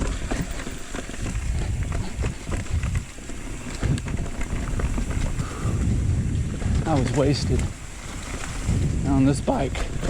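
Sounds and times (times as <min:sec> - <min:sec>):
bike clicks and rattles: 0:00.0 - 0:10.0
wind rumble on microphone: 0:00.0 - 0:10.0.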